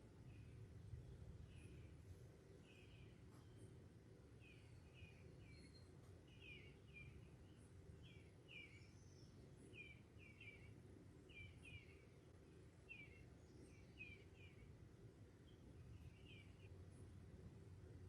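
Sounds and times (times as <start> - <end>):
faint bird chirping: 0.0 - 18.0
low background rumble: 0.0 - 18.0.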